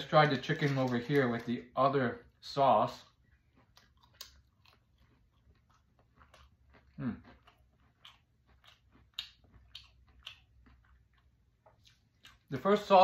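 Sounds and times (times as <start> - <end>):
chewing crispy food: 0.0 - 13.0.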